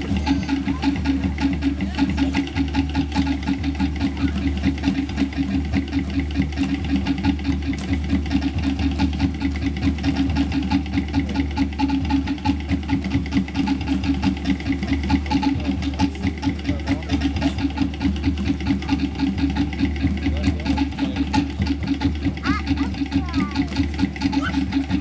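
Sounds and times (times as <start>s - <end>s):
fast drumming: 0.0s - 25.0s.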